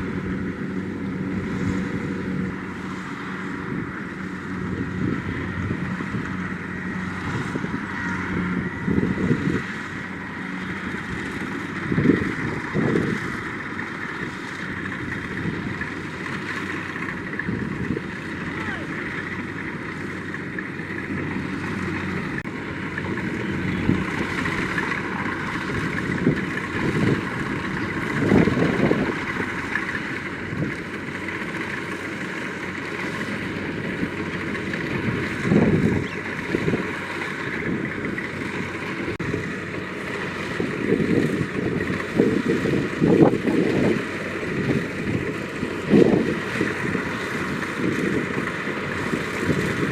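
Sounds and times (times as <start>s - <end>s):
combine harvester running: 0.0s - 49.9s
wind gusts on microphone: 0.0s - 49.9s.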